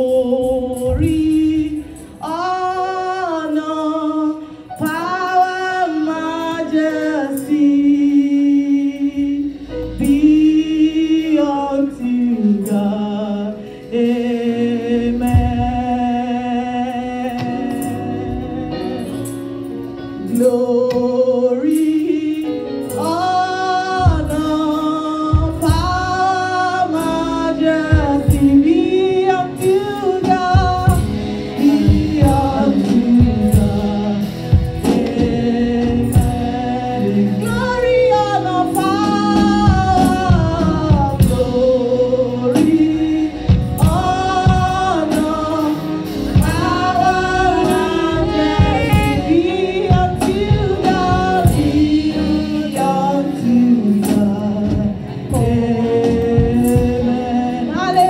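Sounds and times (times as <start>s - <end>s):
woman singing gospel: 0.0s - 58.0s.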